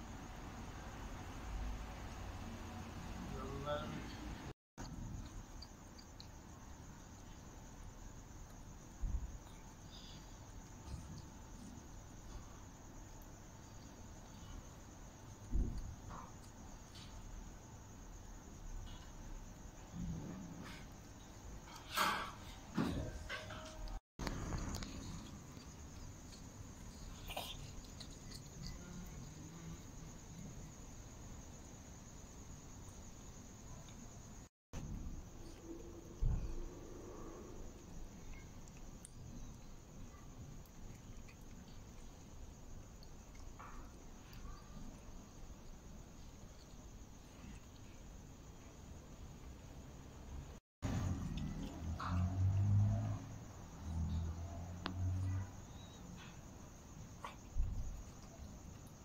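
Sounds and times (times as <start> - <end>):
night insects chirring: 0.0 - 59.0.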